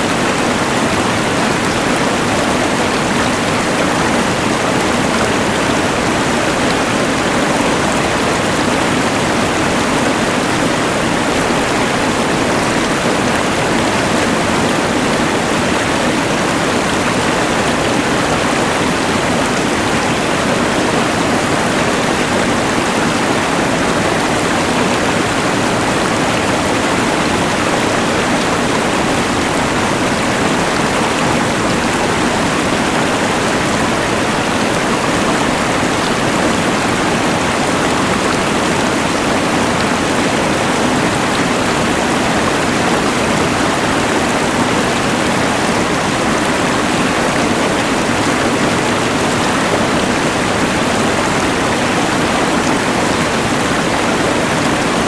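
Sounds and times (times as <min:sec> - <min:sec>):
rushing mountain river: 0:00.0 - 0:55.0.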